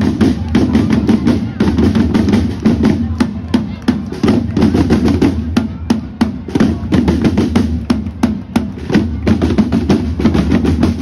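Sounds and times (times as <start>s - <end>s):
marching drums: 0.0s - 11.0s.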